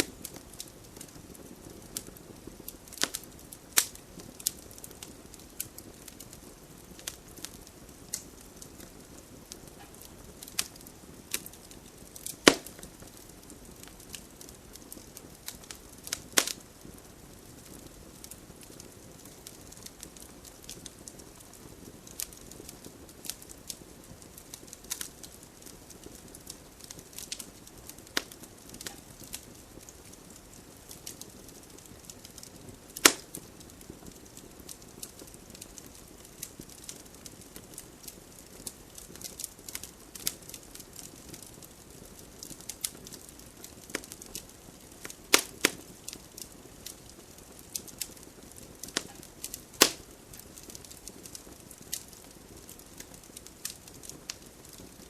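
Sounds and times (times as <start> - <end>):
campfire flames rumbling: 0.0 - 55.0
fire crackling and popping: 0.0 - 55.0.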